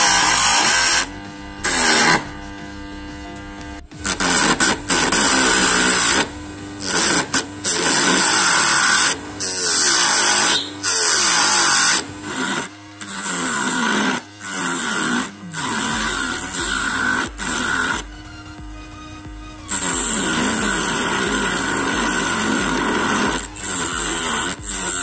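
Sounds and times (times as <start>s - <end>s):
blade scraping spinning wood: 0.0s - 25.0s
small electric motor whine: 0.0s - 25.0s.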